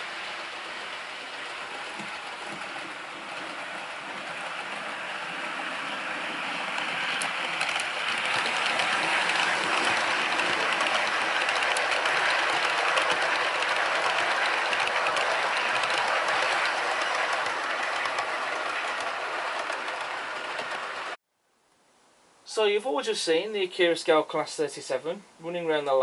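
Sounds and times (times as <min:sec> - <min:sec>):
model train wheels rumbling: 0:00.0 - 0:21.2.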